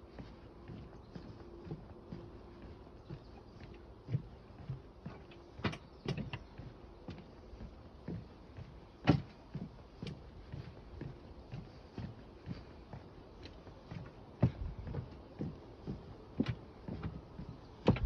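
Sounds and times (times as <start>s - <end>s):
footsteps walking: 0.0s - 18.0s.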